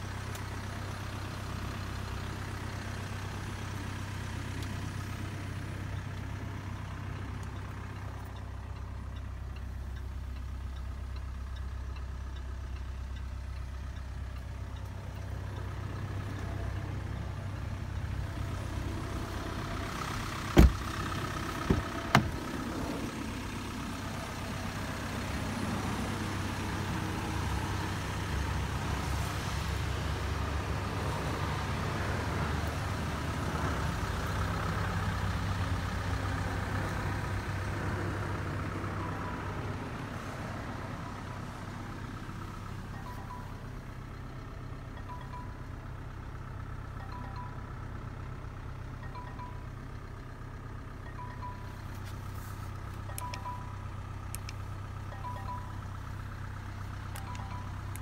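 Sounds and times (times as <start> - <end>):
low hum inside car cabin: 0.0 - 27.9, 36.1 - 58.0.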